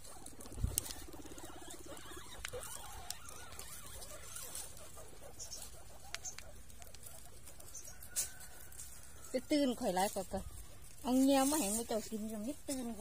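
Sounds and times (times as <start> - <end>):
guinea pigs scuffling and rustling: 0.0 - 13.0.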